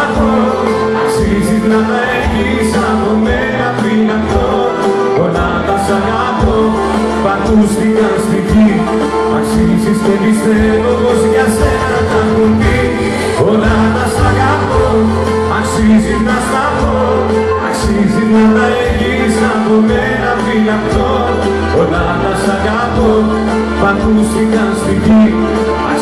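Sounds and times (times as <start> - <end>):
drums: 0.0 - 26.0
guitar: 0.0 - 26.0
man singing lead: 0.0 - 26.0.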